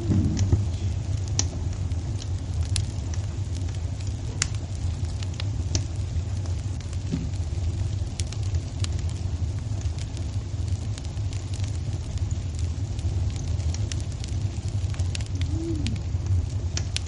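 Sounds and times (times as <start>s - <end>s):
fire crackles and pops: 0.0s - 17.0s
flames rumbling: 0.0s - 17.0s.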